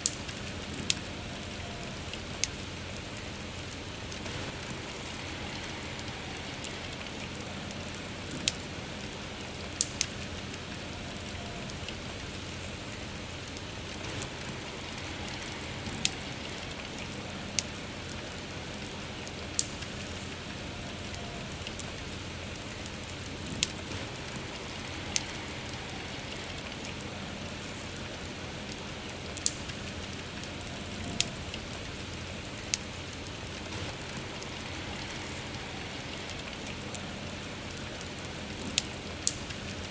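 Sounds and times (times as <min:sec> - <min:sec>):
steady rain hiss: 0:00.0 - 0:39.9
wood fire crackling and popping: 0:00.0 - 0:39.9.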